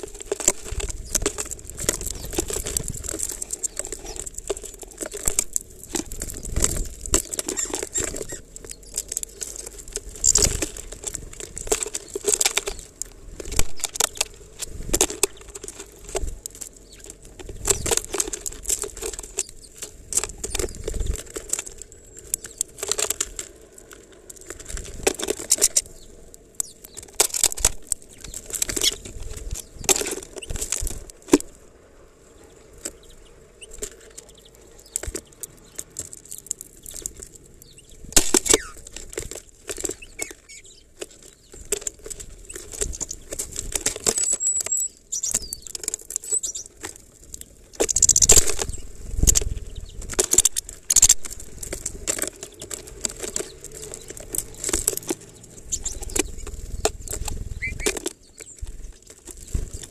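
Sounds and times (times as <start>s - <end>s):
seeds clicking against plastic: 0.0s - 31.8s, 32.4s - 59.9s
bird rustling in seeds: 0.0s - 59.9s.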